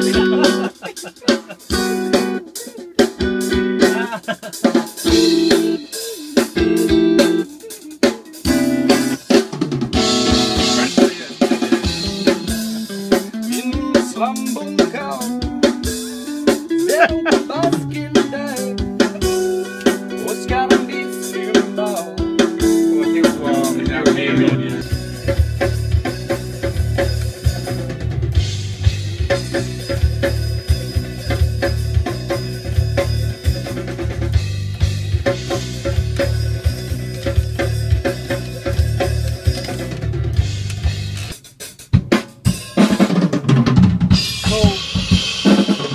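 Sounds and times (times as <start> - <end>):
electric guitar lead notes: 0.0 - 4.1, 5.0 - 9.3, 10.0 - 40.9
band playing: 0.0 - 45.9.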